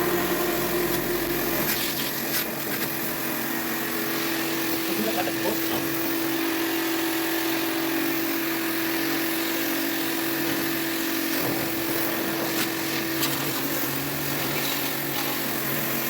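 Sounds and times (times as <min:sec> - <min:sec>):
small electric motor running: 0:00.0 - 0:16.0.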